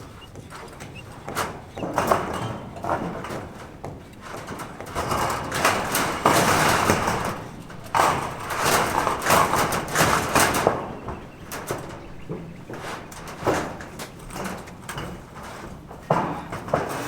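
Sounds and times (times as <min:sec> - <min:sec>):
rough scraping: 0:00.6 - 0:14.4
sharp knocks and clicks: 0:00.7 - 0:15.1.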